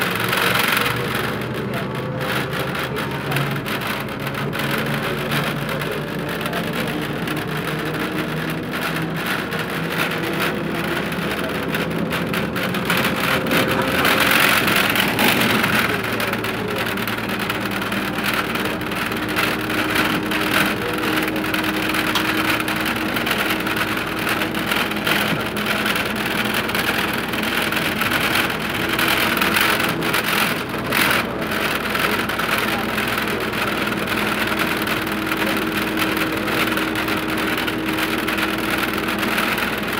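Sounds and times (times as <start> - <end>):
bus diesel engine hum: 0.0 - 39.9
road noise: 0.0 - 39.9.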